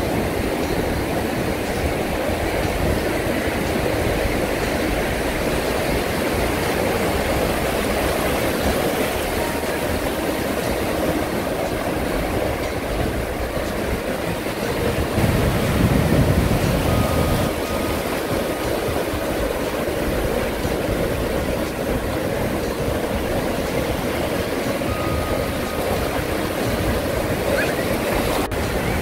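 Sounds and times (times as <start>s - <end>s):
ocean surf breaking: 0.0s - 29.0s.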